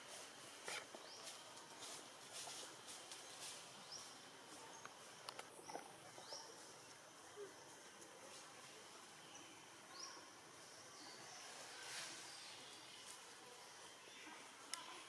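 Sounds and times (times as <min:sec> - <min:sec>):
high insect hum: 0:00.0 - 0:15.0.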